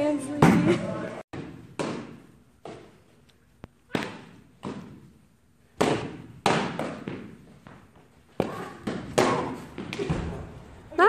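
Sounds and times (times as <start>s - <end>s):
balls banging in echoing hall: 0.0s - 11.0s.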